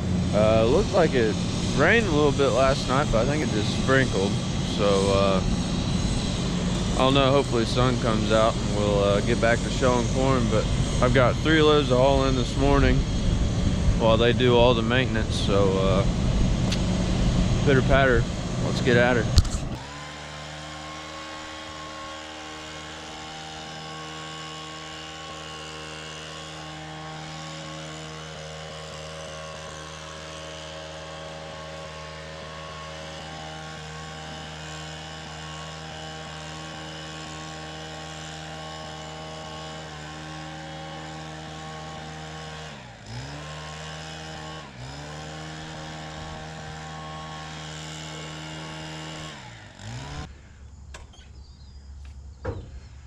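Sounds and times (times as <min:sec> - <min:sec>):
leaf blower engine running: 0:00.0 - 0:53.0.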